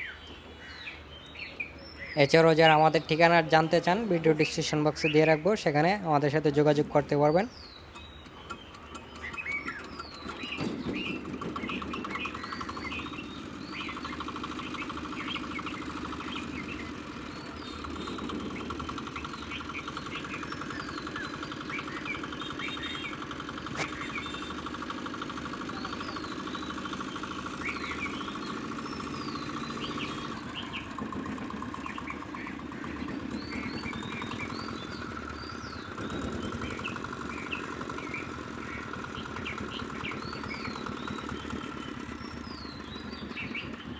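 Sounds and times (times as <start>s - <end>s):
birds chirping: 0.0s - 43.9s
diesel engine running: 0.0s - 43.9s.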